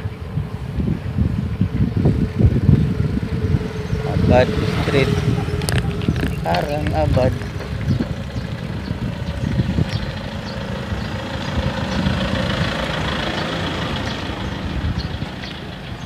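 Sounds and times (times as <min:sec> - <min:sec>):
bicycle road rumble: 0:00.0 - 0:16.0
wind buffeting microphone: 0:00.0 - 0:16.0.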